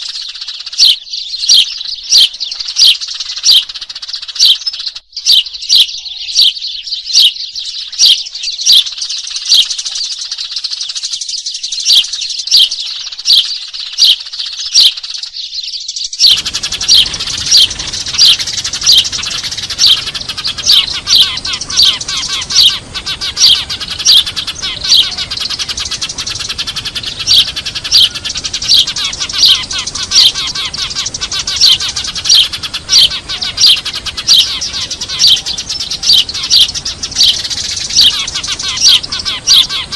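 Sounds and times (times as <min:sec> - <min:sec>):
flock chatter: 0:00.0 - 0:15.5, 0:16.2 - 0:39.9
sparrows chirping: 0:00.0 - 0:39.9.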